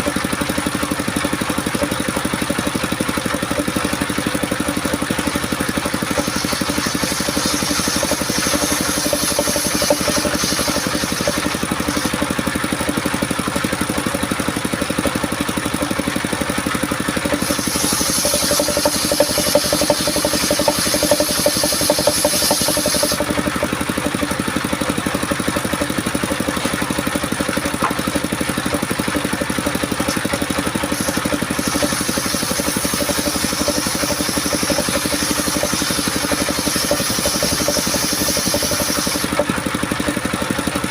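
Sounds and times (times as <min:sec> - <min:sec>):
engine driving circular saw: 0:00.0 - 0:40.9.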